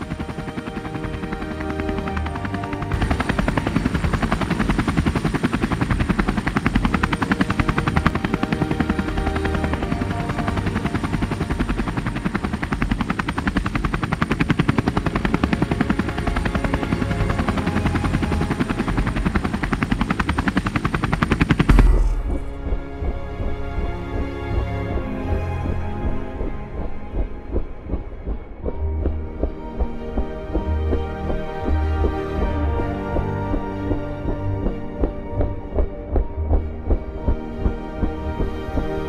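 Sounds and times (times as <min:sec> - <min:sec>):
helicopter rotor chop: 0:00.0 - 0:39.0.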